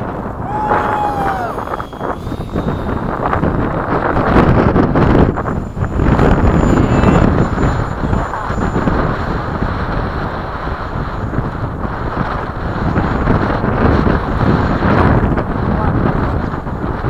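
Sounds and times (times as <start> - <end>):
electric ducted fan whine: 0.0 - 17.0
wind buffeting microphone: 0.0 - 17.0.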